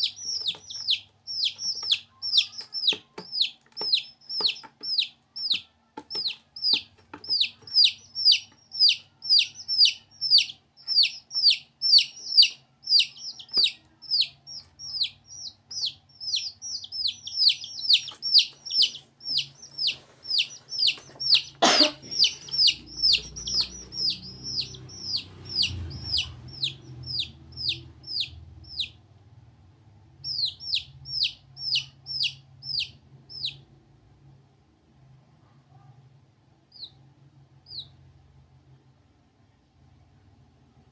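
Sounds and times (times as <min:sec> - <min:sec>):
chicks peeping: 0:00.0 - 0:29.0, 0:30.1 - 0:33.7, 0:36.7 - 0:38.2.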